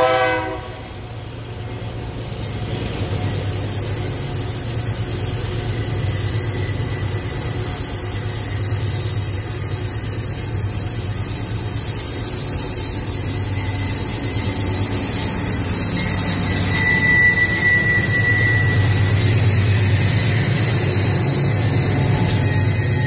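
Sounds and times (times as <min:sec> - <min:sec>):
diesel locomotive rumble: 0:00.0 - 0:23.0
wheel-on-rail noise: 0:01.6 - 0:23.0.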